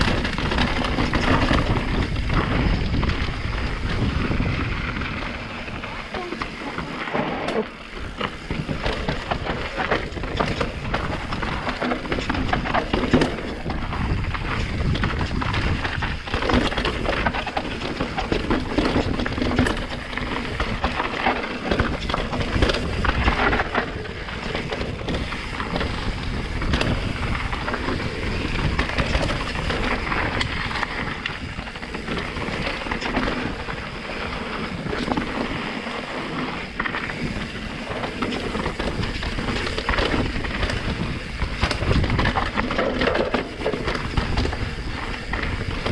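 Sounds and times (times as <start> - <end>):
wind buffeting microphone: 0.0 - 7.0, 7.9 - 45.9
bike tyres crunching over rocks: 0.0 - 45.9.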